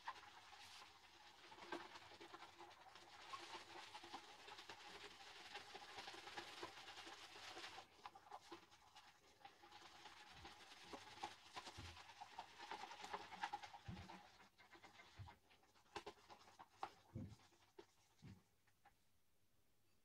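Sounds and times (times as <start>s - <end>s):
shaving brush swishing on soap: 0.0s - 18.5s.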